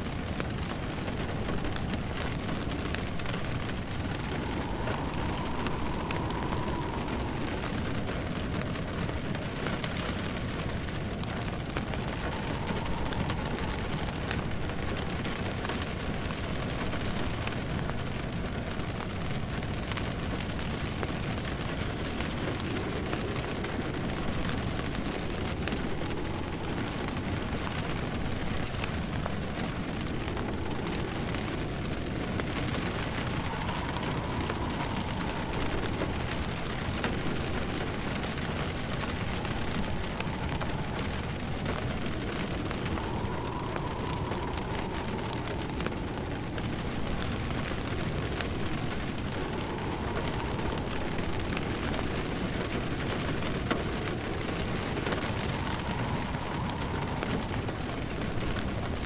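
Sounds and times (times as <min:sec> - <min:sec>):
faint whistling wind: 0:00.0 - 0:59.0
log fire crackling: 0:00.0 - 0:59.0
rain pattering: 0:00.0 - 0:59.0.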